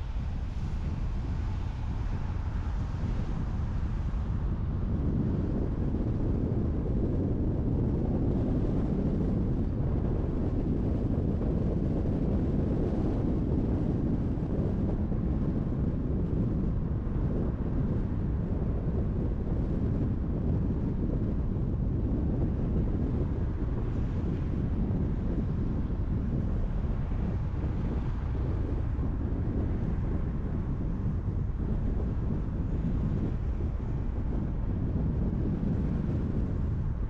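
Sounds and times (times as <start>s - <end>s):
wind noise: 0.0s - 37.0s.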